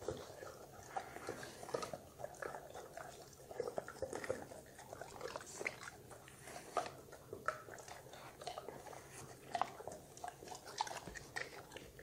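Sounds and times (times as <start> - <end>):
dogs chewing crunches: 0.0 - 12.0.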